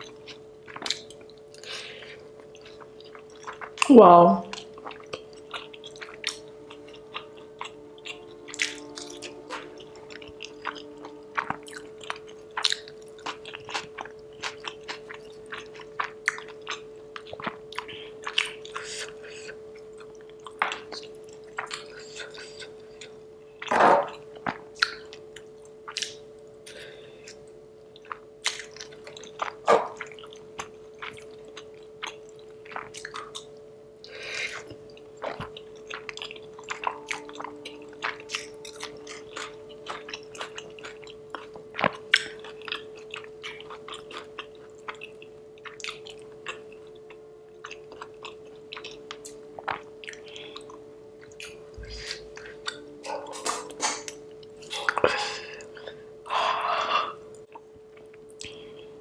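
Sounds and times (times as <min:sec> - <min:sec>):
close chewing with mouth smacks: 0:00.0 - 0:03.9, 0:04.5 - 0:23.7, 0:24.4 - 0:26.2, 0:28.0 - 0:33.6, 0:34.4 - 0:53.4
faint steady hum: 0:00.0 - 0:59.0.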